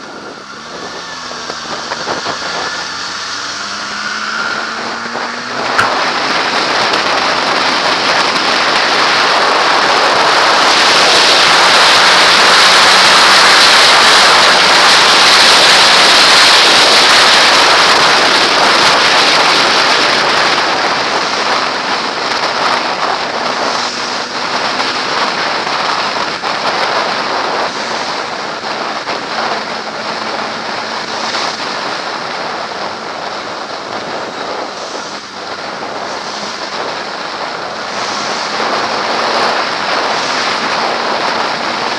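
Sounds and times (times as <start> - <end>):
wind rushing over camera: 0.0 - 41.9.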